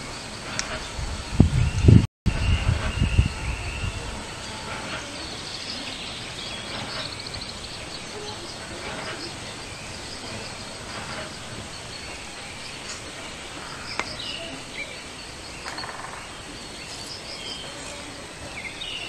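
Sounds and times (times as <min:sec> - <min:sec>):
bird chirps: 0:00.0 - 0:19.0
faint high pulsing buzz: 0:00.0 - 0:19.0
steady hiss: 0:00.0 - 0:19.0.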